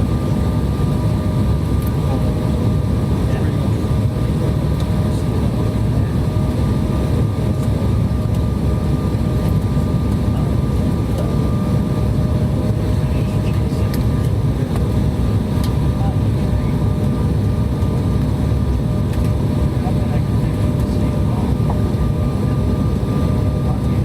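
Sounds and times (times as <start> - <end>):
jet cabin engine rumble: 0.0 - 24.0.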